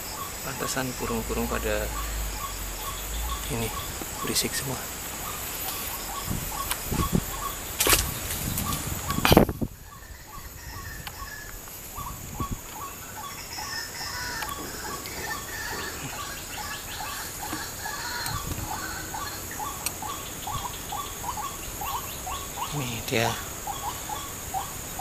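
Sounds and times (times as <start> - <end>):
birds chirping: 0.0 - 25.0
steady high-pitched hiss: 0.0 - 25.0.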